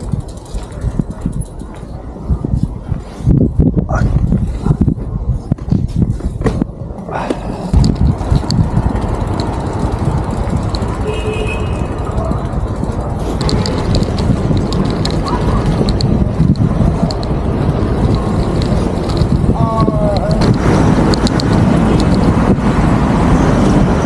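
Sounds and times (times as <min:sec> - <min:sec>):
road rumble: 0:00.0 - 0:24.0
wind buffeting microphone: 0:00.0 - 0:24.0.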